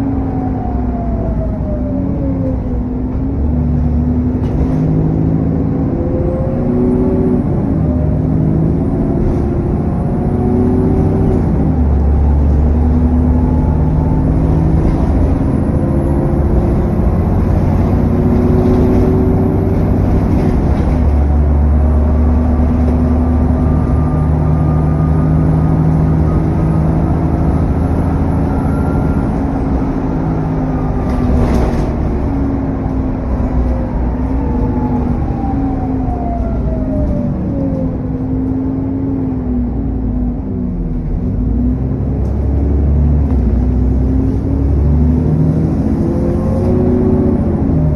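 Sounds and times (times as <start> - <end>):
bus engine: 0.0 - 47.9
high turbo whine: 5.3 - 47.9.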